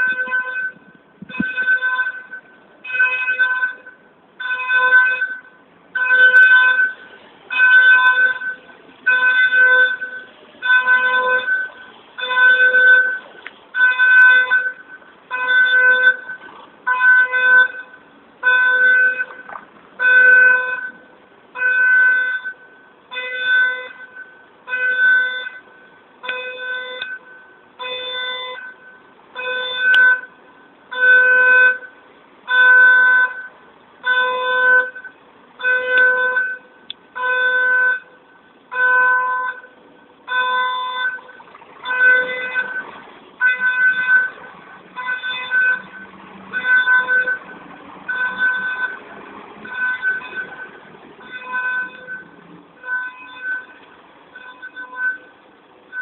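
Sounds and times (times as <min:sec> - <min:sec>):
faint truck engine: 0:00.0 - 0:56.0
reversing alarm beeping: 0:00.0 - 0:56.0.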